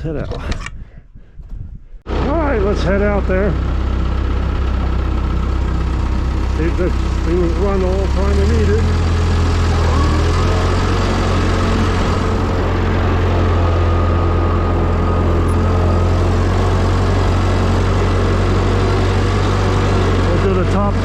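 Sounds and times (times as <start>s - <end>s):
tractor engine humming: 2.1s - 21.0s.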